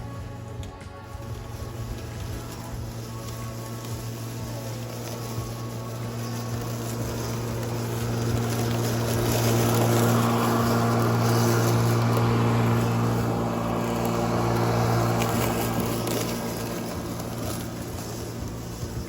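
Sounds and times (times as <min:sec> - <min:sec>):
lawnmower motor and blade hum: 0:00.0 - 0:19.0.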